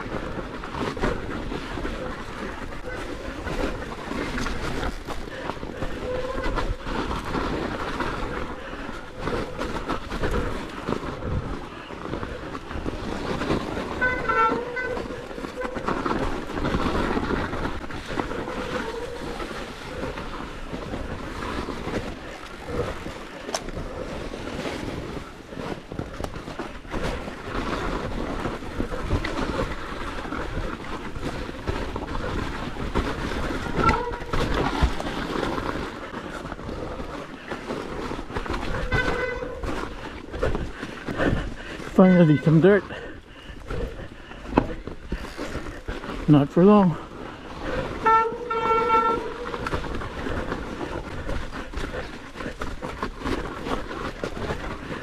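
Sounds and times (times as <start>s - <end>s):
bike rattling and knocking: 0.0s - 55.0s
tyres crunching on snow: 0.0s - 55.0s.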